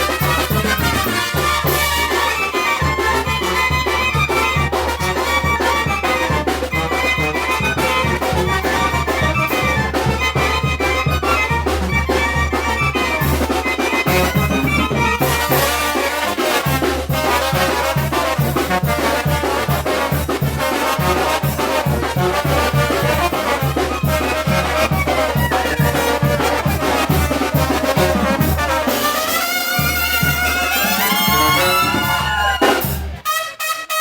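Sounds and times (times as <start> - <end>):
steady drumbeat: 0.0 - 33.4
brass band playing: 0.0 - 34.0
trumpets and trombones: 0.0 - 34.0.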